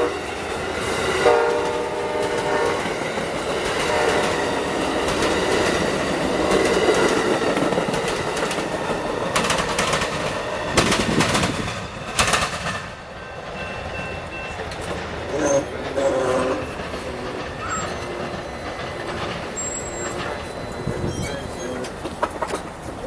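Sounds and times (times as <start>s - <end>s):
train wheels rumbling on rails: 0.0s - 23.0s
wheels clacking over track: 1.6s - 23.0s.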